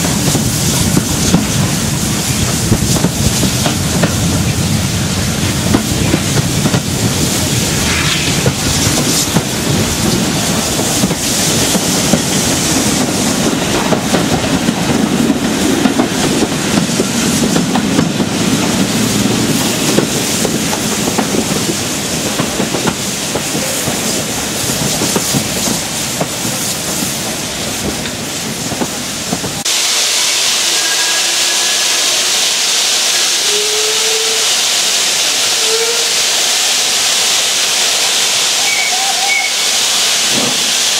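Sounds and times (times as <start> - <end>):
steam hissing: 0.0 - 40.9
steam locomotive exhaust thrash: 0.0 - 40.9.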